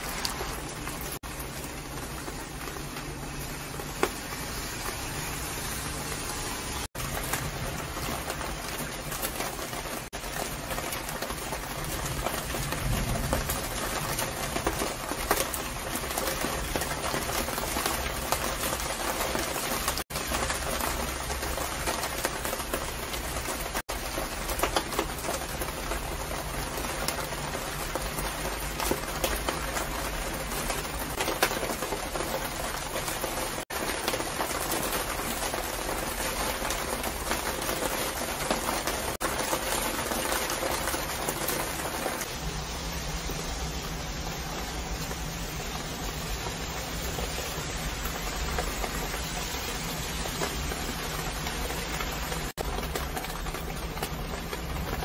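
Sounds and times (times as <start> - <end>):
rain pattering on plastic cover: 0.0 - 55.0.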